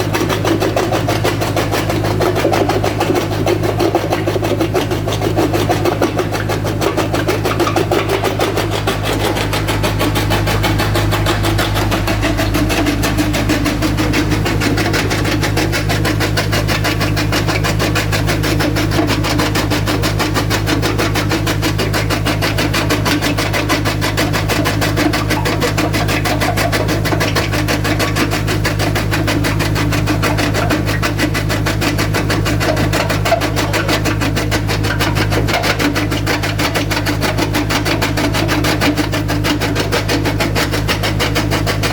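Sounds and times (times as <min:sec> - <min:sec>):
jaw crusher machine droning: 0:00.0 - 0:41.9.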